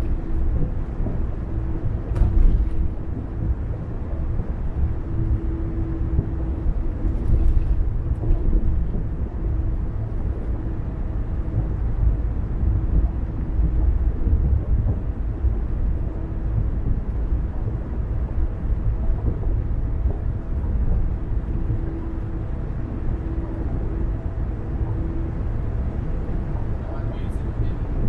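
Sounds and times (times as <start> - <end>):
car tyres and engine rumble: 0.0 - 28.0
faint steady hum: 0.0 - 28.0.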